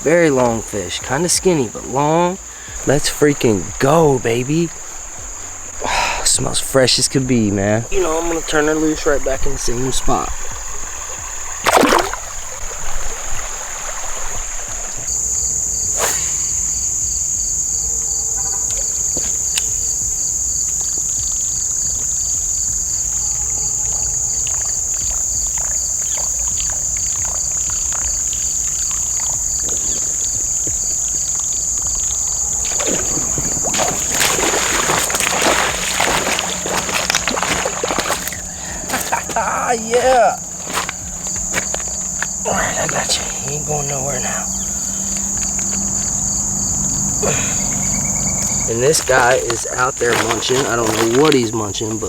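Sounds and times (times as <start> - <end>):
insect pulsed chirps: 0.0 - 52.0
insects shrilling chorus: 0.0 - 52.0
water splashing: 0.0 - 52.0.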